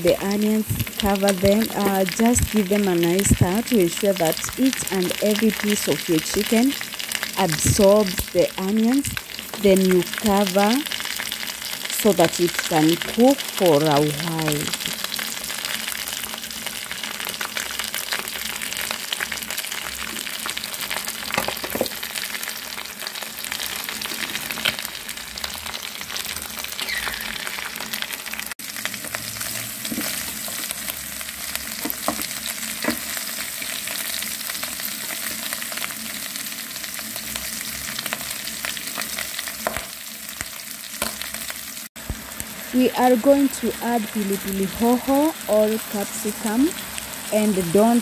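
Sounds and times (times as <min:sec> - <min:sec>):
chicken and onions sizzling in oil: 0:00.0 - 0:48.0.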